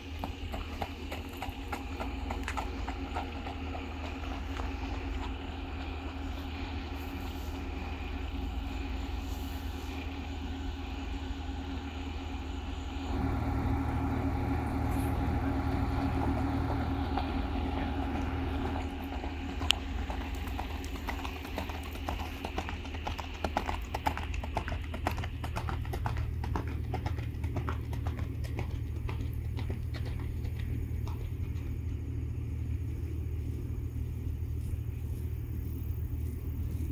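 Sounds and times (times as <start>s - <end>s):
horse hooves trotting on gravel: 0.0s - 10.0s, 13.1s - 36.9s
steady low hum: 0.0s - 36.9s.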